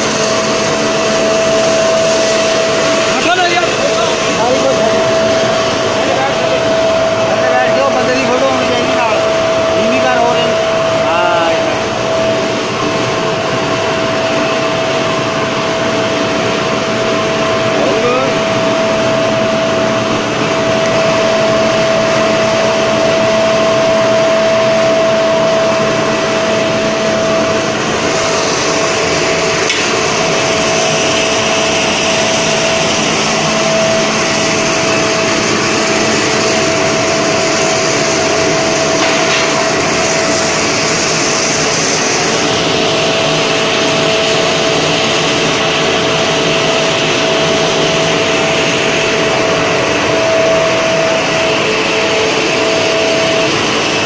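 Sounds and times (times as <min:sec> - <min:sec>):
air blower rushing and whining: 0:00.0 - 0:54.0.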